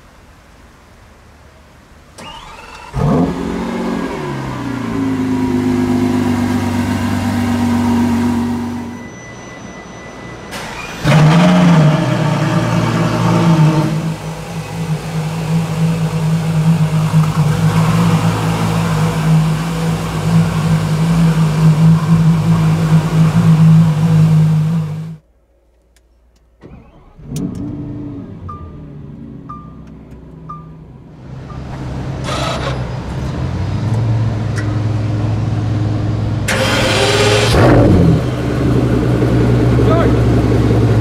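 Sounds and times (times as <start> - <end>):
car engine starting and idling: 0.0 - 41.0.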